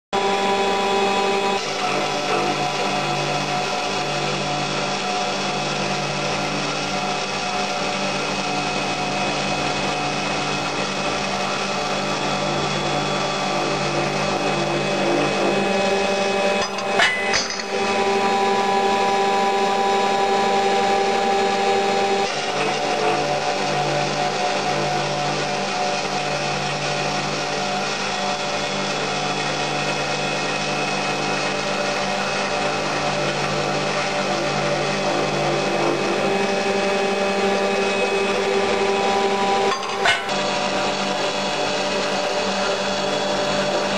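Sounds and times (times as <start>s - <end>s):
circular saw machine whine: 0.2s - 43.9s.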